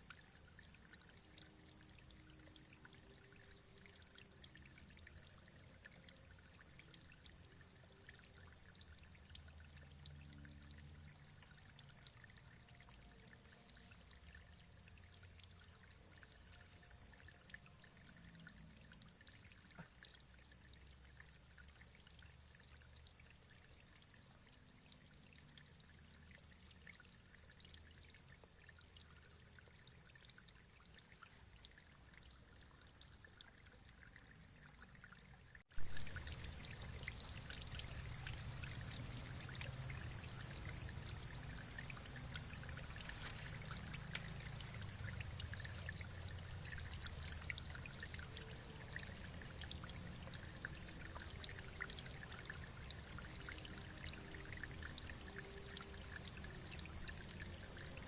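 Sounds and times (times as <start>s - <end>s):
trickling stream: 0.0s - 58.0s.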